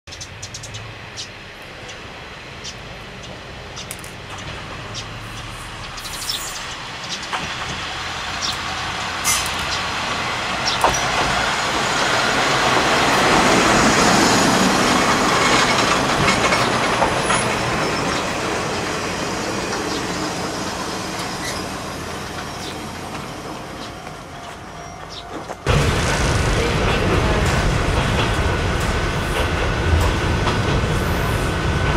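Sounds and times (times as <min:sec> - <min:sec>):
diesel railcar passing: 0:00.1 - 0:31.9.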